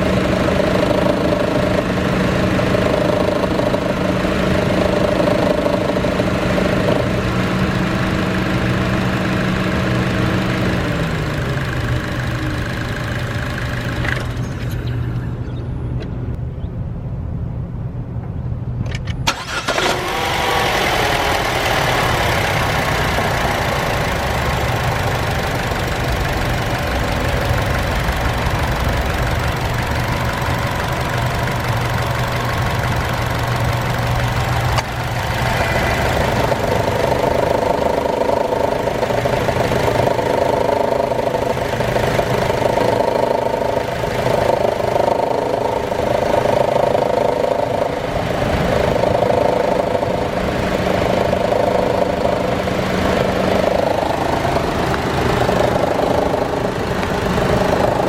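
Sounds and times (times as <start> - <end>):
car engine idling: 0.0 - 16.4, 19.3 - 58.0
engine growl: 0.0 - 16.4, 19.0 - 58.0.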